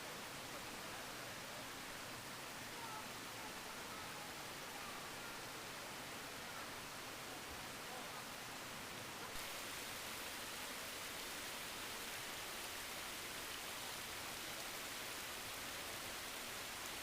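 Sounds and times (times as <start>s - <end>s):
stream running water: 0.0s - 17.0s.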